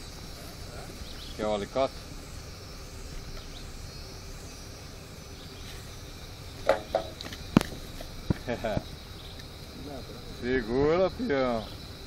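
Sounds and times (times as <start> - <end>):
faint insect chirring: 0.0 - 12.0
outdoor background noise: 0.0 - 12.0.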